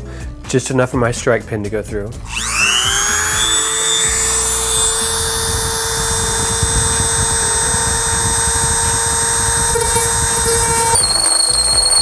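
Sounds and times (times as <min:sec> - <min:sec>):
rotary tool grinding with high whine: 0:02.2 - 0:12.0.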